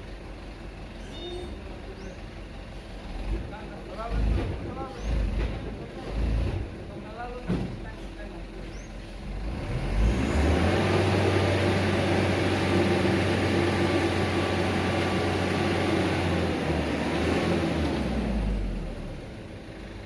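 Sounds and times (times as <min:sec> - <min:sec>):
diesel truck engine revving: 0:00.0 - 0:07.2, 0:08.4 - 0:20.0.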